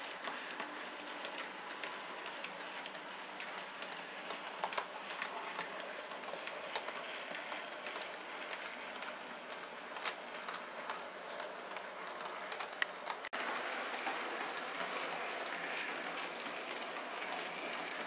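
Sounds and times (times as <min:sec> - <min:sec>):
model train wagons rolling: 0:00.0 - 0:18.0.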